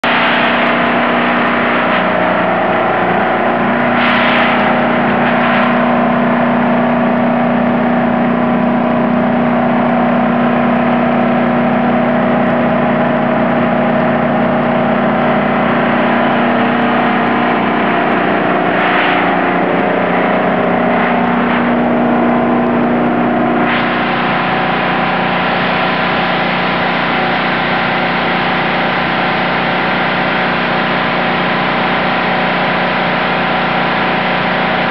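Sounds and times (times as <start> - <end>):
generator engine running: 0.0 - 34.9.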